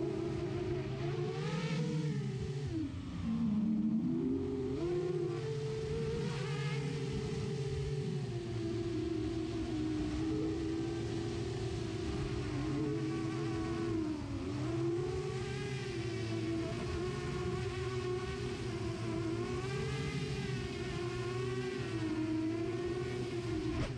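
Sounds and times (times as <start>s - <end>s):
drone motors and propellers whining: 0.0s - 23.9s.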